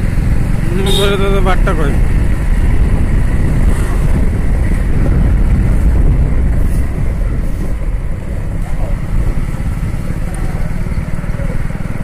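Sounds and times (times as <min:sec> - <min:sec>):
motorcycle engine rumble: 0:00.0 - 0:12.0
wind buffeting microphone: 0:01.3 - 0:11.4.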